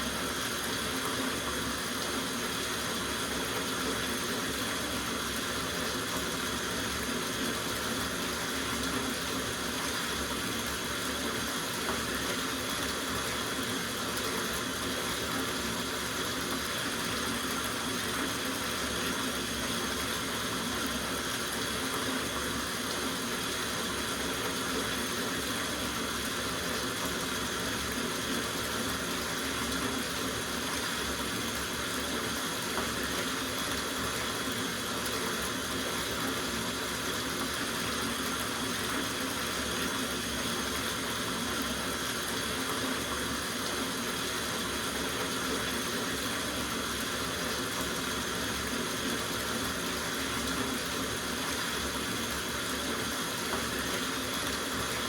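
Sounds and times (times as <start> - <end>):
water running from tap into bathtub: 0.0 - 55.0.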